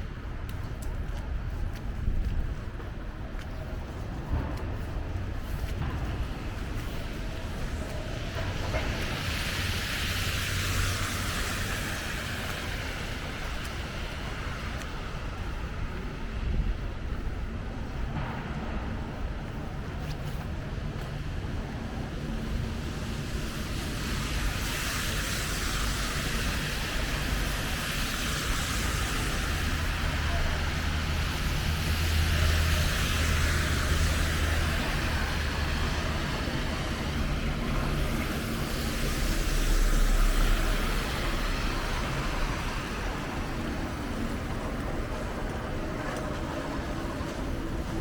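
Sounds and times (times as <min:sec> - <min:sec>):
tyres hissing on wet road: 0:00.0 - 0:48.0.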